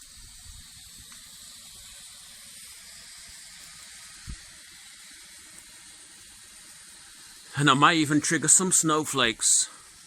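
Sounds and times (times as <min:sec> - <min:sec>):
smoke flare hissing: 0:00.0 - 0:10.0.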